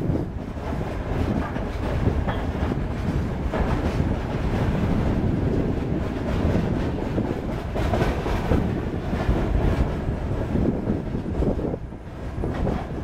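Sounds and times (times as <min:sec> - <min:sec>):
freight train wheels clattering: 0:00.0 - 0:13.0.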